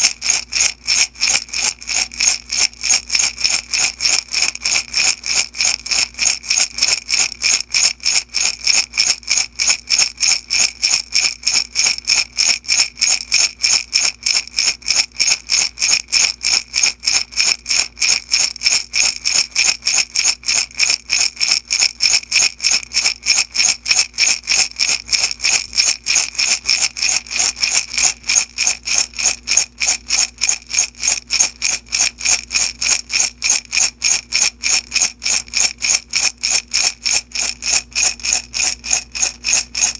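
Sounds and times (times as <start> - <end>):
beads rattling in a glass jar: 0.0 - 39.9.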